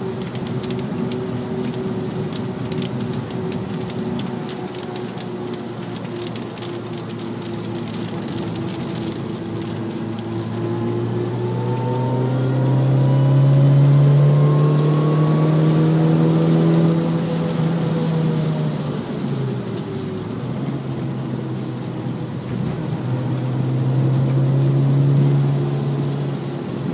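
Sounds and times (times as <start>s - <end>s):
car engine accelerating: 0.0s - 26.9s.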